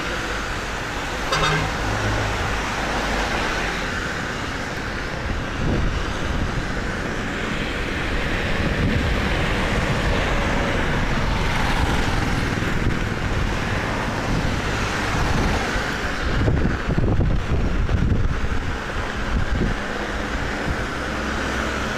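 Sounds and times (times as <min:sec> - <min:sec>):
tyres hissing on wet road: 0:00.0 - 0:21.9
steady rain: 0:01.9 - 0:21.9.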